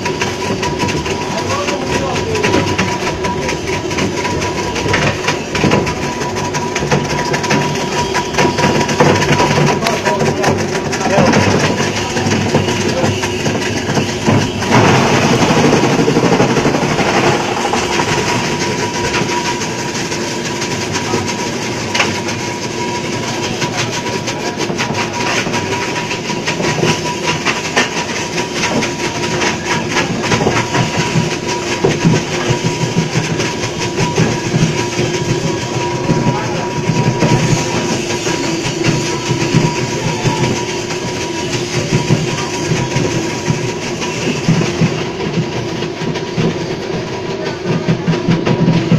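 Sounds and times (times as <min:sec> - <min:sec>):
ice crusher motor hum: 0:00.0 - 0:44.8.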